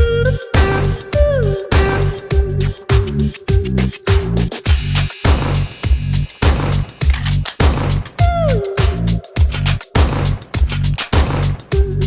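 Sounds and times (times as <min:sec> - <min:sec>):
electronic music with heavy bass beat: 0:00.0 - 0:12.0.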